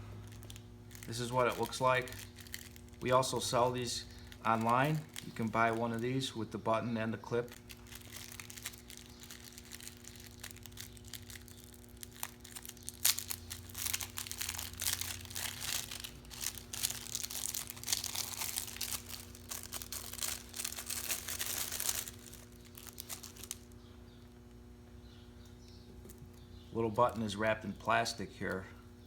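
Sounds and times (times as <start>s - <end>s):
plastic packaging crinkling: 0.1s - 23.8s.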